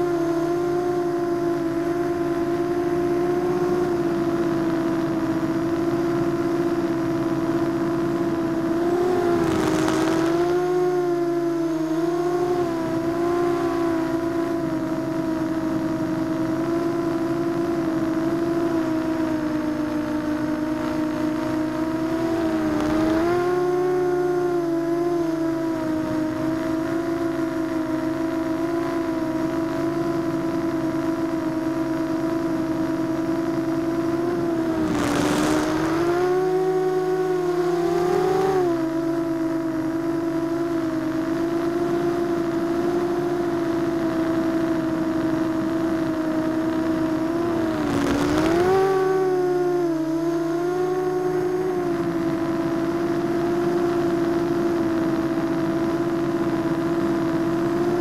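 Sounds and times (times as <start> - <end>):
quadcopter motors whining: 0.0 - 58.0.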